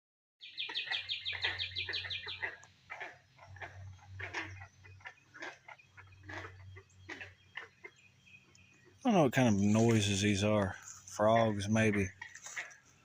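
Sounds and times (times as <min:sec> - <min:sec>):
frog calls: 0:00.4 - 0:12.9.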